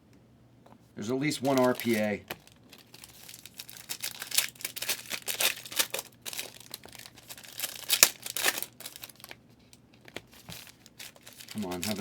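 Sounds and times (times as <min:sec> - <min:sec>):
plastic wrapper tearing and crinkling: 0:01.4 - 0:09.4, 0:10.1 - 0:12.0.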